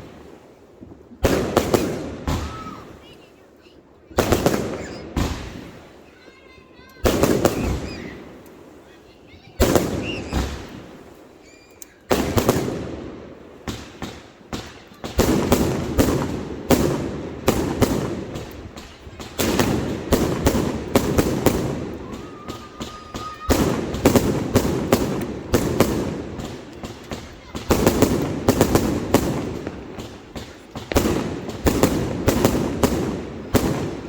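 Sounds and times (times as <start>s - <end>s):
fireworks banging and crackling: 0.0s - 34.0s.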